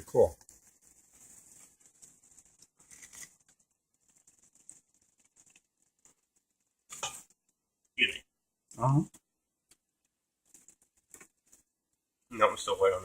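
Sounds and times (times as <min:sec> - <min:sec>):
bread frying in oil: 0:00.0 - 0:13.0.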